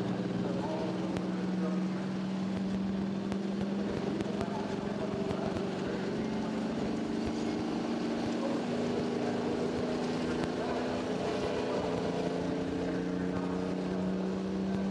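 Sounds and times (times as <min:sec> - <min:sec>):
tractor engine revving high: 0:00.0 - 0:14.9.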